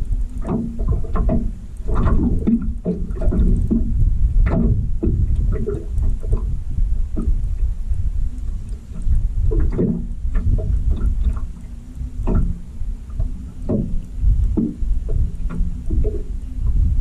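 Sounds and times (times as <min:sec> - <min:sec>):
boat low rumble: 0:00.0 - 0:17.0
water slapping against hull: 0:00.0 - 0:17.0.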